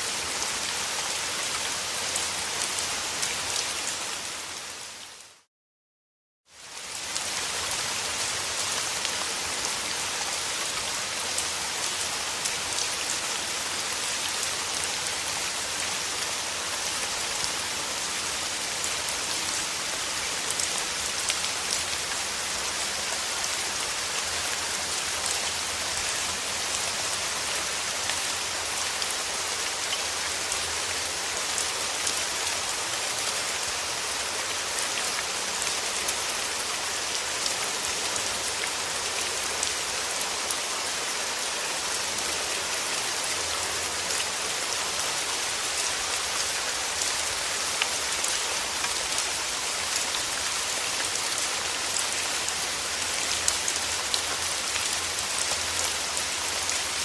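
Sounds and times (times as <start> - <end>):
steady rain falling: 0.0 - 5.5, 6.5 - 57.0.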